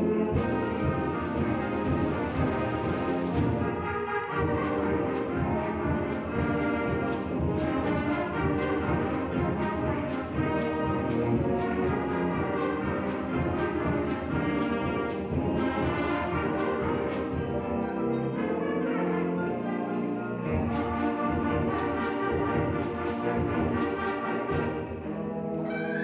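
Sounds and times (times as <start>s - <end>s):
wind band playing: 0.0s - 26.0s.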